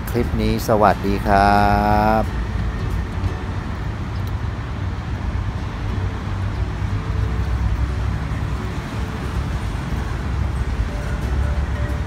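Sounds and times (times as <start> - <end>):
background traffic rumble: 0.0 - 12.0.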